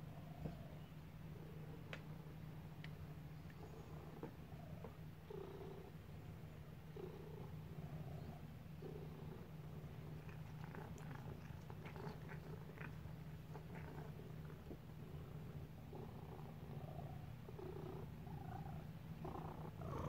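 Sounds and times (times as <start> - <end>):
cat purring: 3.5 - 20.0.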